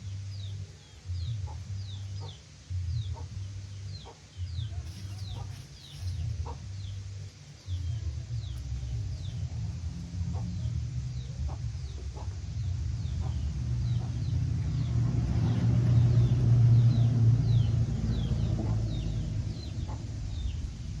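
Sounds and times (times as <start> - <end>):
low rumble: 0.0 - 21.0
chicks peeping: 1.1 - 7.0, 7.6 - 15.6, 16.8 - 20.6.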